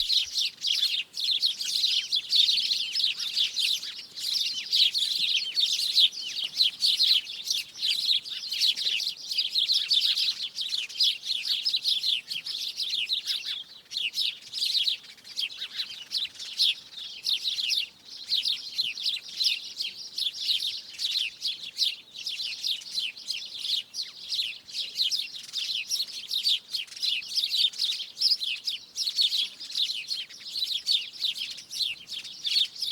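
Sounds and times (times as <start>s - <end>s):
flock of small birds chirping: 0.0s - 32.9s.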